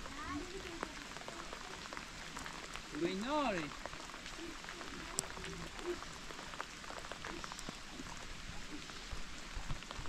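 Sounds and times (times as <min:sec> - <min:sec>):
raindrops tapping on a surface: 0:00.0 - 0:10.0
steady rain falling: 0:00.0 - 0:10.0.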